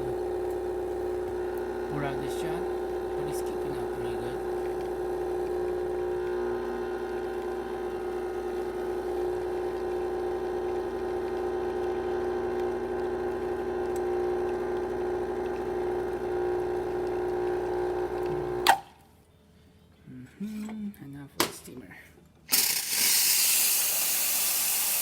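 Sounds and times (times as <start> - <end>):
espresso machine pump humming: 0.0 - 18.8, 22.5 - 25.0.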